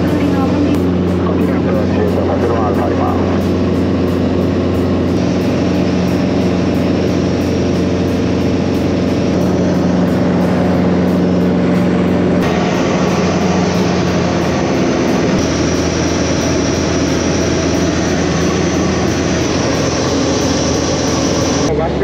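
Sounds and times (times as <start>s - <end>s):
propeller plane engine drone: 0.0s - 22.0s.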